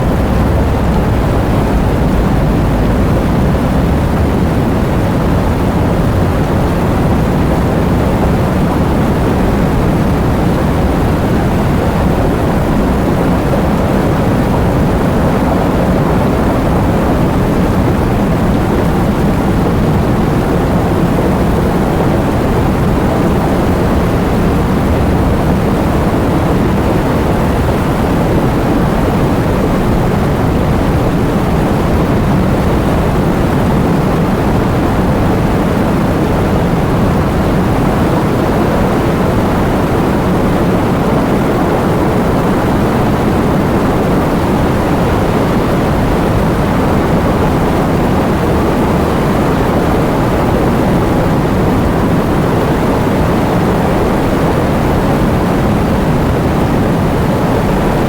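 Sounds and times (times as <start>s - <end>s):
heavy wind and rain: 0.0s - 58.0s.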